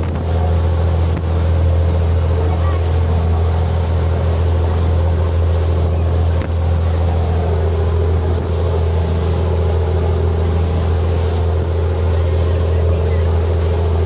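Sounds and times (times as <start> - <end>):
boat engine droning: 0.0 - 14.0
rushing water: 0.0 - 14.0.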